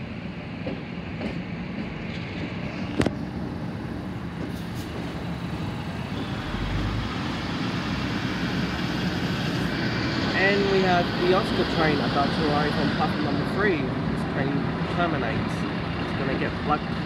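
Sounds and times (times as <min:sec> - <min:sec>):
diesel train engine running: 0:00.0 - 0:17.0
rumble of train wheels: 0:00.0 - 0:17.0.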